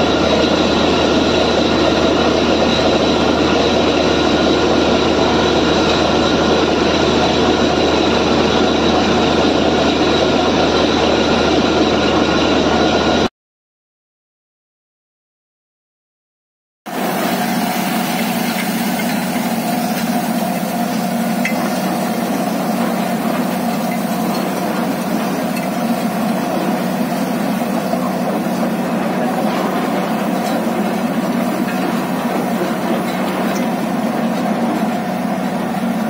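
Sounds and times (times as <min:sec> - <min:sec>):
drilling rig droning: 0:00.0 - 0:13.3, 0:16.9 - 0:36.0.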